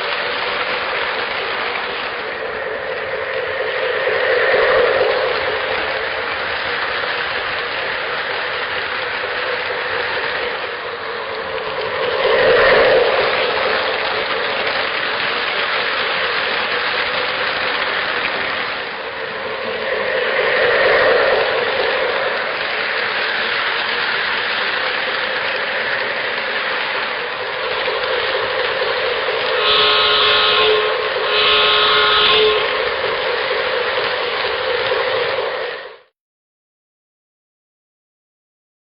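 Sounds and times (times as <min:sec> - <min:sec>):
model train rolling on track: 0:00.0 - 0:36.1.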